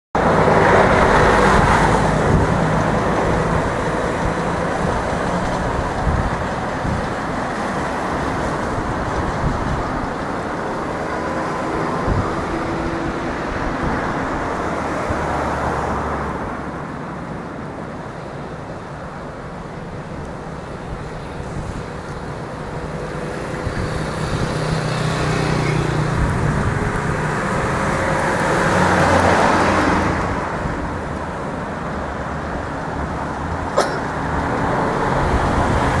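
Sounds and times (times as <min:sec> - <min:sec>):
road traffic passing: 0:00.2 - 0:36.0.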